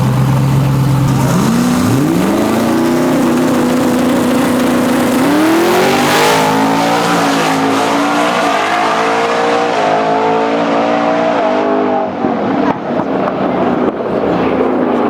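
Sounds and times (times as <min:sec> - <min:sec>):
engine launching at full throttle: 0:00.0 - 0:14.0.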